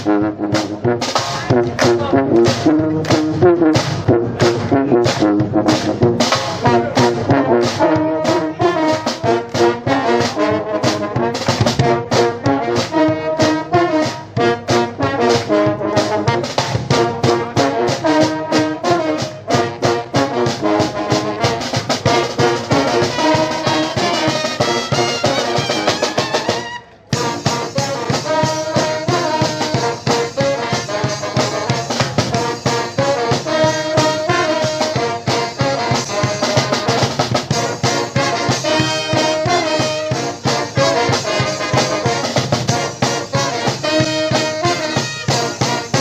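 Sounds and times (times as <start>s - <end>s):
brass band playing: 0.0s - 46.0s.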